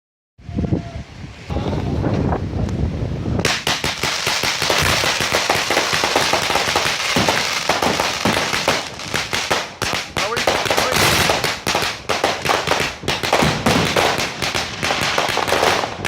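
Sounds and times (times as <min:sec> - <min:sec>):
fireworks crackling: 0:01.8 - 0:16.0.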